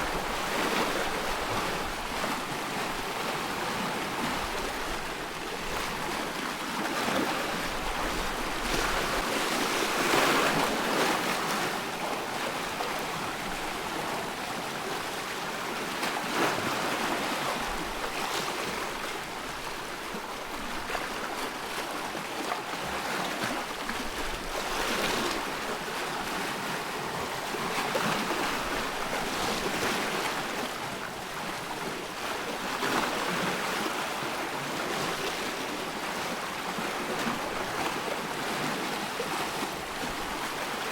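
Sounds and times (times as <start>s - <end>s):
small waves washing: 0.0s - 40.9s.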